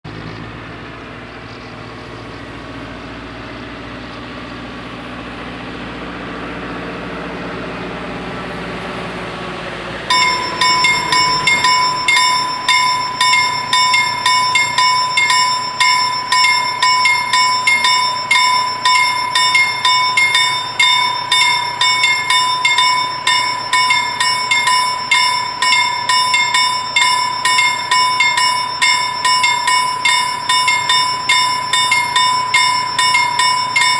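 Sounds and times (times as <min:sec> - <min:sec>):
level crossing warning bells: 0:00.5 - 0:33.9.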